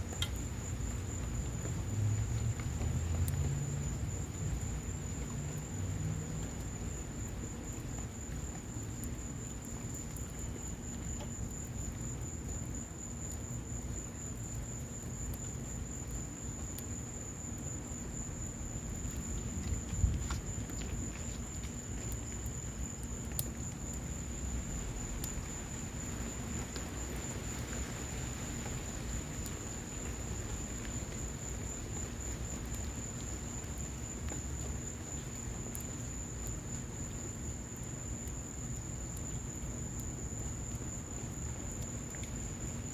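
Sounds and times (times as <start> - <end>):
rain falling: 0.0 - 42.9
wood fire crackling: 0.0 - 42.9.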